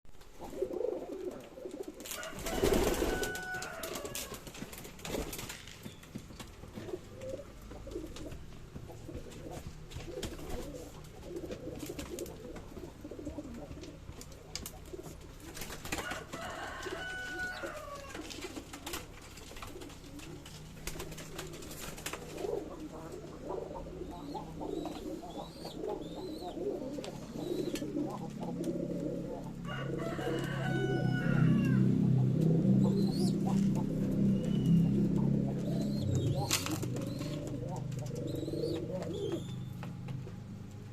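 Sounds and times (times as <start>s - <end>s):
pigeons cooing: 0.2s - 40.7s.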